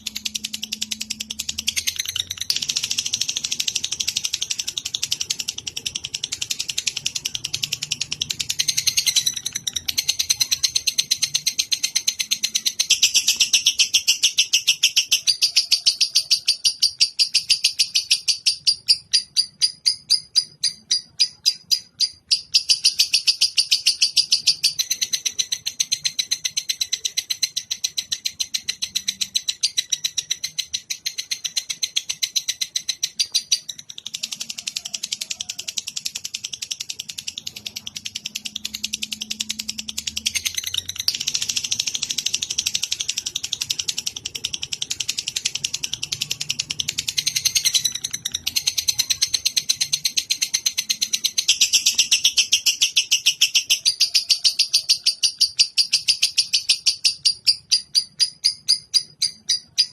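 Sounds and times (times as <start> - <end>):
bird chattering trill: 0.0 - 59.9.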